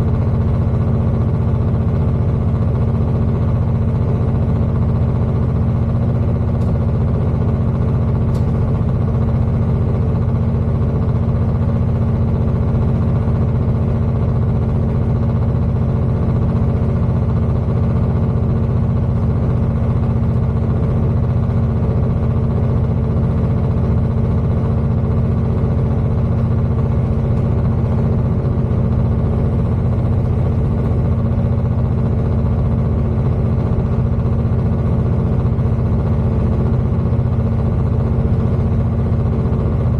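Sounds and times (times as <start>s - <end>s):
diesel engine drone: 0.0s - 39.9s
track rumble: 0.0s - 39.9s.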